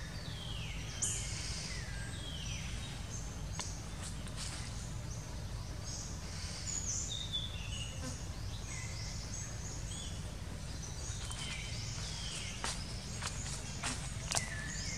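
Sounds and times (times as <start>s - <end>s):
birds chirping and whistling: 0.0s - 14.9s
steady low rumble: 0.0s - 14.9s.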